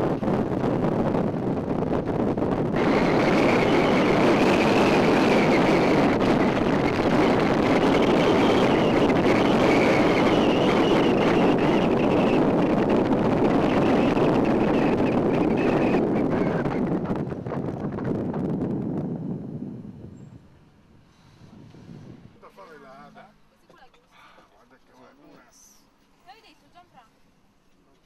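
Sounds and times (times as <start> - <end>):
vehicle road and engine noise: 0.0 - 24.2.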